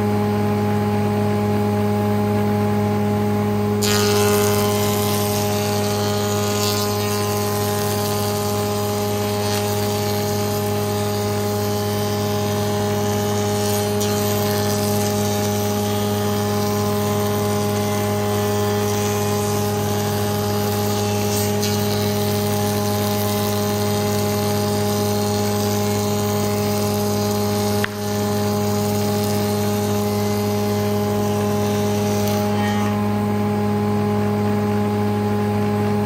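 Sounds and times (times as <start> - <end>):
machine hum: 0.0 - 36.0
cutter machining wood: 3.5 - 35.9.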